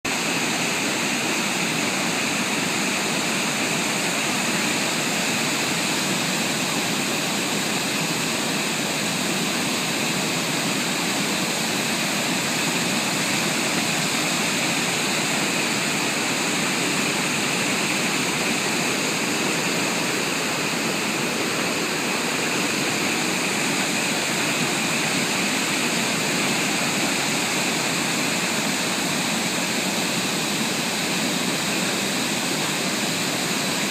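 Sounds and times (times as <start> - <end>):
water rushing over weir: 0.0 - 33.9.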